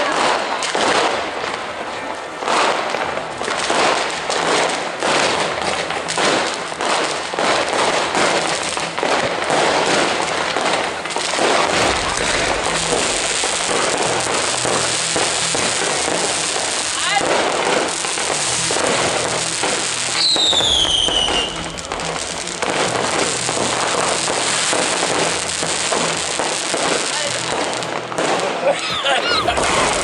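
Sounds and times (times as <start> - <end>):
fireworks crackling hiss: 0.0 - 30.0
fireworks launching and bursting: 0.0 - 30.0.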